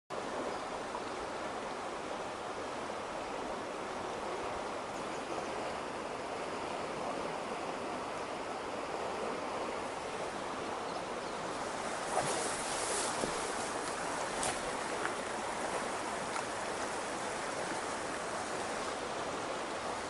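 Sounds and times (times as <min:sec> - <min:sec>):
stream water rushing: 0:00.1 - 0:20.0.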